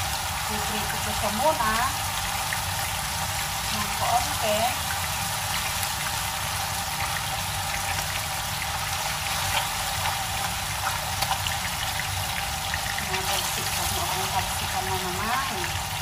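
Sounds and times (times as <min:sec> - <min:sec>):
fish frying in hot oil: 0:00.0 - 0:16.0
oil crackles and pops: 0:00.0 - 0:16.0.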